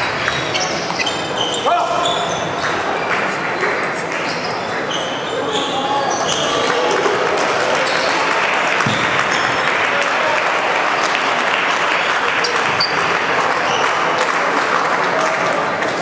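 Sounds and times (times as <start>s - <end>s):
murmur of voices: 0.0s - 16.0s.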